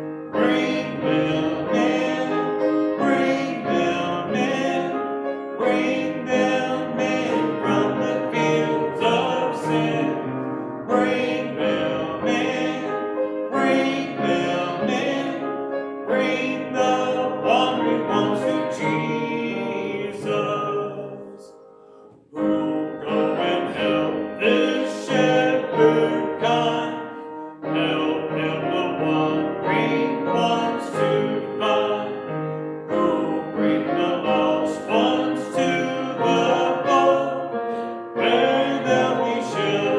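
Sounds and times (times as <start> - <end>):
hymn singing: 0.0 - 39.9
piano accompaniment: 0.0 - 39.9.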